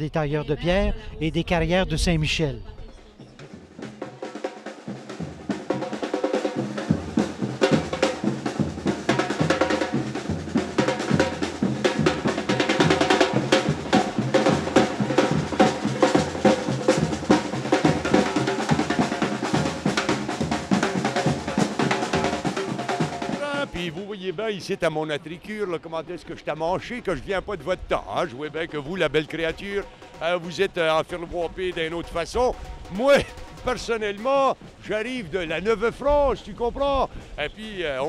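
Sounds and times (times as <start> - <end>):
bass drums: 0.1 - 24.0, 27.0 - 37.6
snare drums: 3.2 - 24.8, 27.0 - 38.0.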